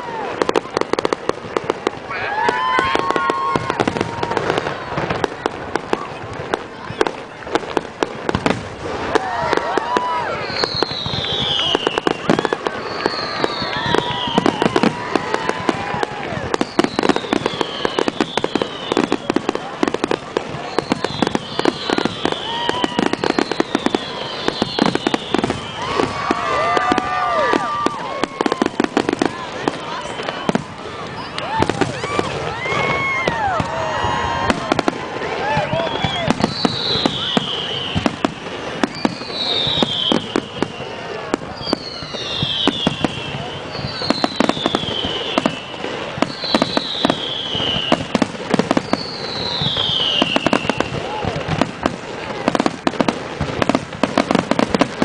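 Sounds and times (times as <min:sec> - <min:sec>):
fireworks bangs and crackles: 0:00.0 - 0:55.0
fireworks whistles: 0:00.0 - 0:55.0.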